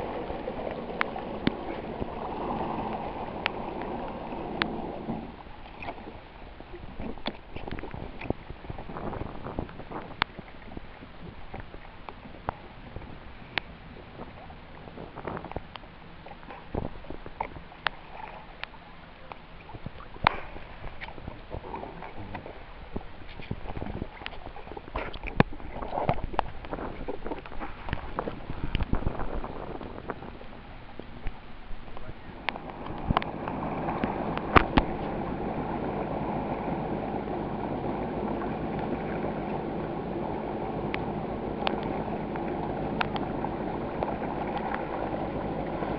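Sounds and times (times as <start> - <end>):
boat engine idling: 0.0 - 23.3, 26.5 - 45.9
water slapping against hull: 0.0 - 45.9
water wash: 0.0 - 45.9
wind: 0.0 - 45.9.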